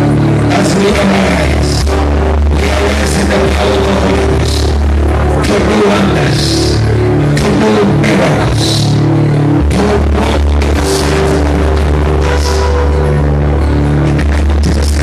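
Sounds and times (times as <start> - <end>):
church music with keyboard chords: 0.0 - 15.0.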